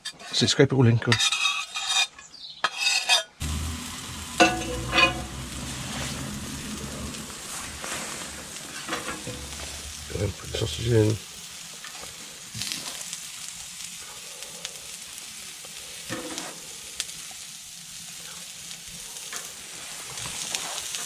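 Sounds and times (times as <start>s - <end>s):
onion sizzling in pan: 2.7s - 21.0s.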